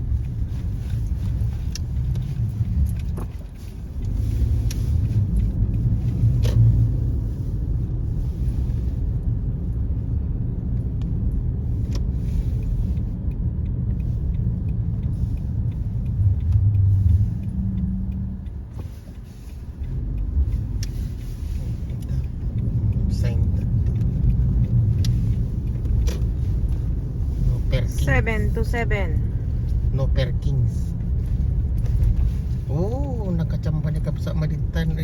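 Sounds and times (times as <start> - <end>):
car driving on snow: 0.0 - 35.0.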